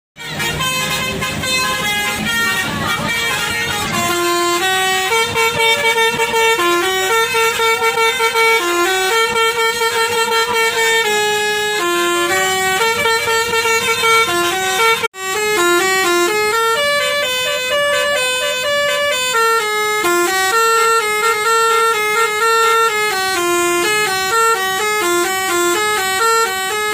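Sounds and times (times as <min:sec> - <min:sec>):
musical bus air horn: 0:00.2 - 0:26.9.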